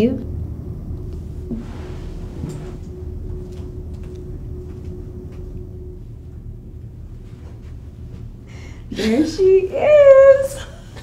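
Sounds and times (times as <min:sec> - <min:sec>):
faint steady hum: 0:00.0 - 0:11.0
low rumble: 0:00.0 - 0:11.0.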